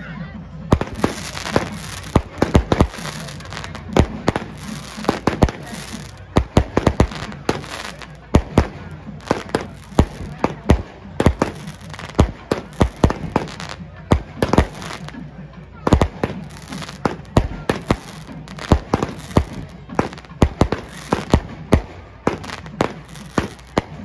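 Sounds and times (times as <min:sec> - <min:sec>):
firecrackers banging: 0:00.7 - 0:24.0.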